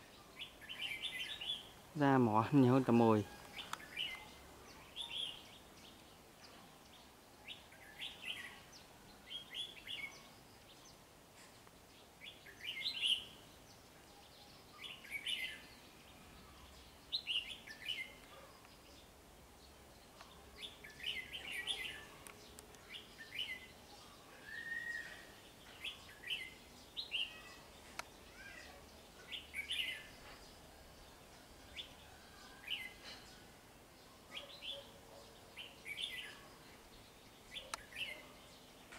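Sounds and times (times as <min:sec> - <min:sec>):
bird chirping: 0:00.0 - 0:38.9
faint background hiss: 0:00.0 - 0:38.9.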